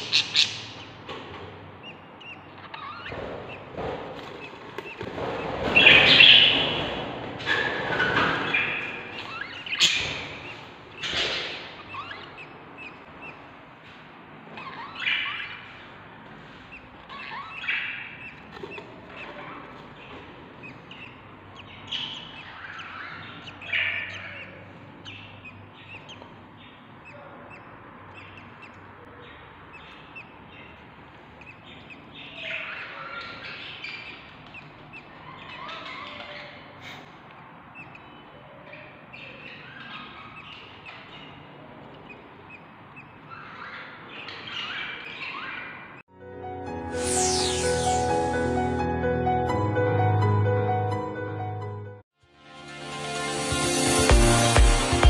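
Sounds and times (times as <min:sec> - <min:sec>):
budgie chicks chirping: 0:00.0 - 0:46.0.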